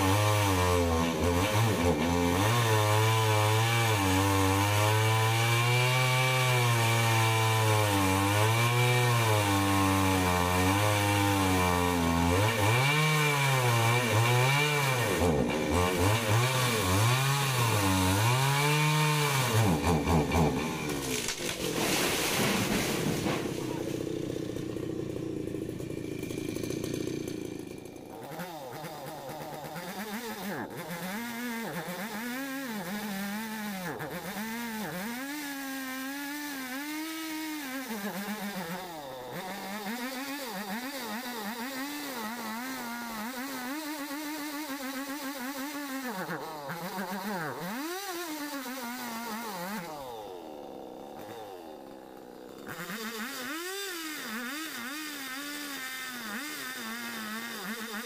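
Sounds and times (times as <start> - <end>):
chainsaw revving in a cut: 0.0 - 58.0.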